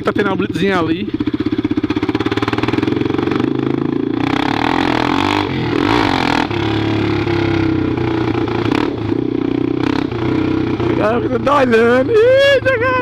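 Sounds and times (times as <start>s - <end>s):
loud single-cylinder motorcycle engine: 0.0s - 13.0s.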